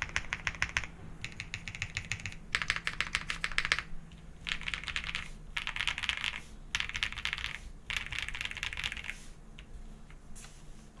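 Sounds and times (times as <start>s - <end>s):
typing on mechanical keyboard: 0.0s - 9.2s.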